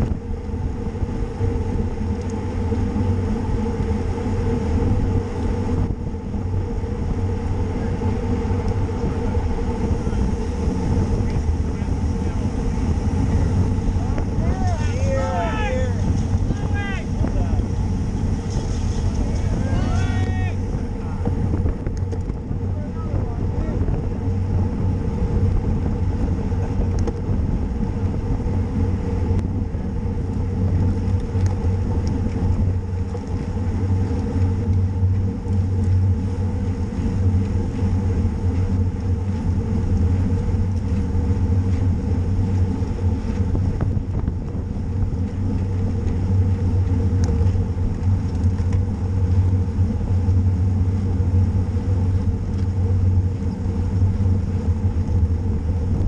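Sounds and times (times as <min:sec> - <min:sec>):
road noise: 0:00.0 - 0:56.0
wind rumble: 0:00.0 - 0:56.0.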